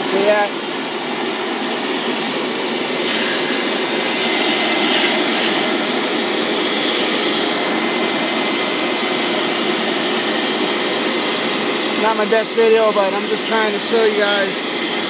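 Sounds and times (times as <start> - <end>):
vacuum whining and sucking water: 0.0 - 15.0.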